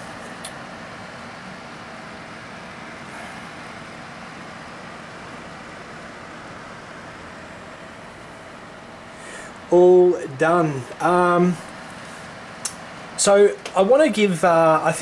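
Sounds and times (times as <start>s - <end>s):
computer fans and pump whirring: 0.0s - 15.0s.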